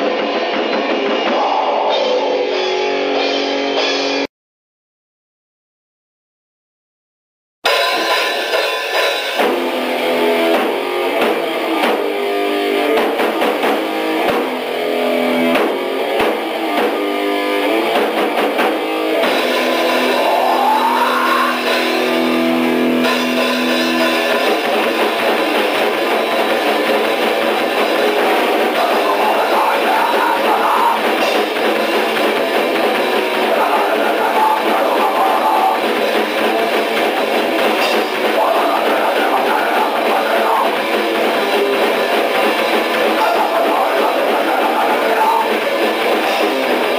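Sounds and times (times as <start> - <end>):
distorted electric guitar: 0.0 - 4.3, 7.6 - 46.9
drum kit: 0.0 - 4.3, 7.6 - 46.9.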